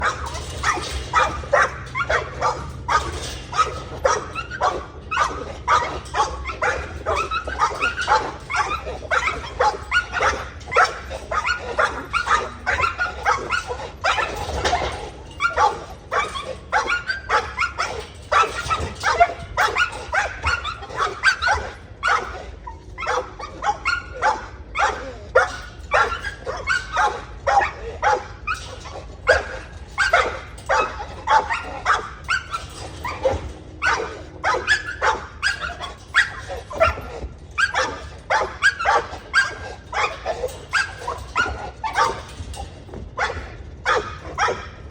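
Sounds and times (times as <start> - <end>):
dog barking: 0.0 - 42.3, 43.2 - 44.8
steady low hum: 0.0 - 44.9.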